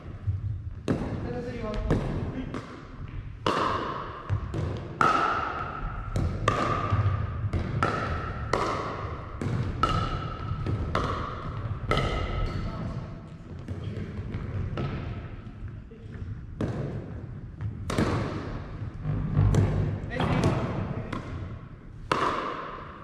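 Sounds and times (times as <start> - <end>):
ball bouncing on wooden floor: 0.2 - 22.8
paddles hitting plastic ball: 0.7 - 12.6, 13.3 - 19.0, 20.3 - 23.0.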